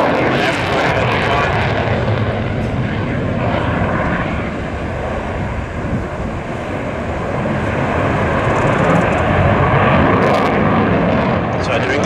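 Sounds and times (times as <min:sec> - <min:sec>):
jet engines in afterburner: 0:00.0 - 0:12.0.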